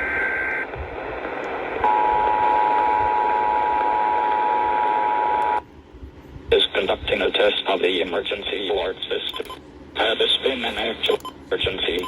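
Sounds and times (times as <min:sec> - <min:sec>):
radio static hiss: 0:00.0 - 0:05.6, 0:06.5 - 0:12.0.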